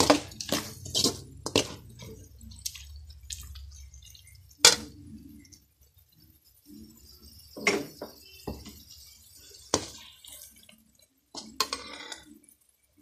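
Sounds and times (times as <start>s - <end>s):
steel spoon scraping a pot: 0.0s - 12.7s.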